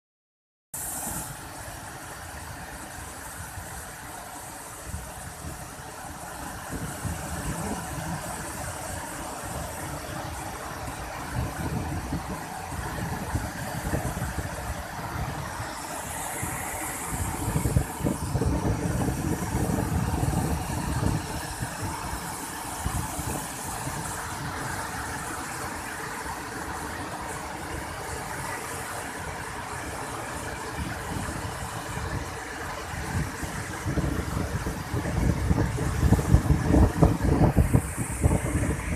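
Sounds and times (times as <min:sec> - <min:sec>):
waterfall roaring: 0:00.8 - 0:38.9.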